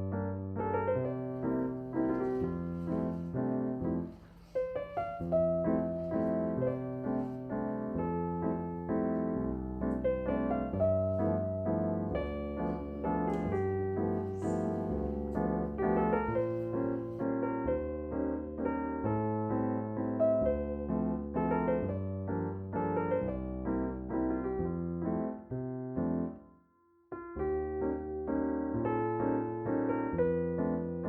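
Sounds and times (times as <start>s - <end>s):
piano chords: 0.0s - 26.5s, 27.1s - 31.0s.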